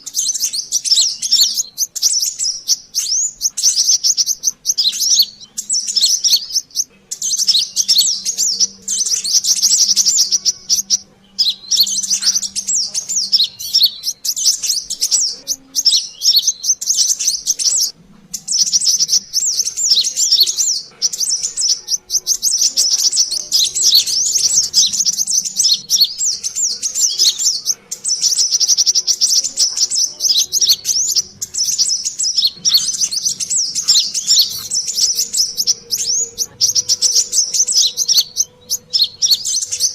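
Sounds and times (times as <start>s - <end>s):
bird chirping and twittering: 0.0s - 39.9s.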